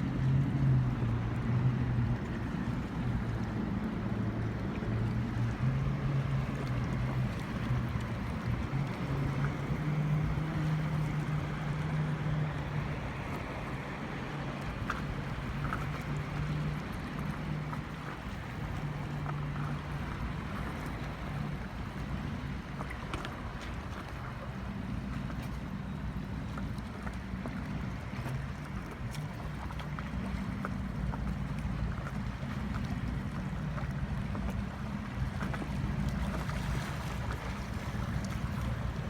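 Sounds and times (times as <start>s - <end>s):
motorboat engine droning: 0.0s - 39.0s
water wash: 0.0s - 39.0s.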